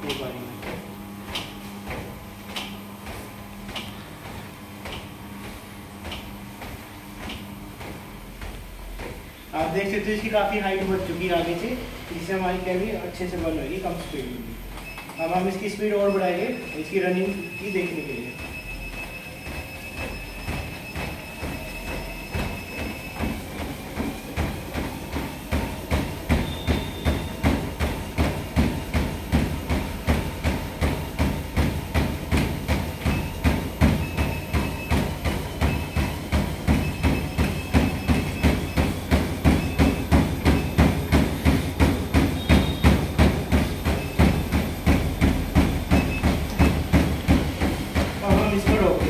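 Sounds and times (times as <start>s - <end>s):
footfalls on treadmill belt: 0.0s - 49.0s.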